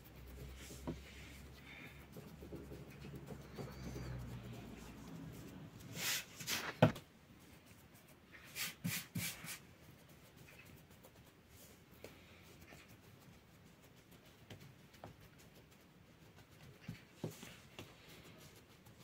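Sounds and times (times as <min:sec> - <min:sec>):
hands rustling dough: 0:00.0 - 0:19.0.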